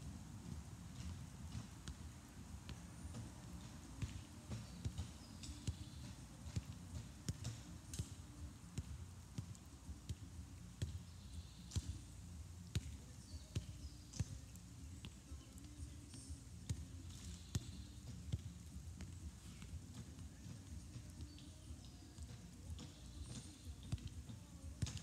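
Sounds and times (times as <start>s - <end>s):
ball taps off foot: 0.4s - 12.1s, 12.7s - 25.0s.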